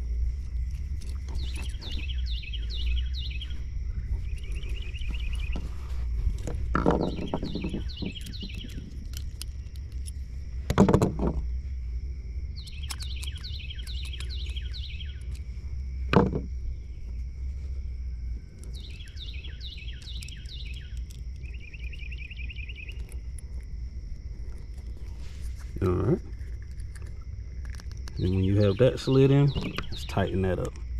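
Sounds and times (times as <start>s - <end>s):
high insect drone: 0.0s - 30.9s
songbird singing: 0.0s - 30.9s.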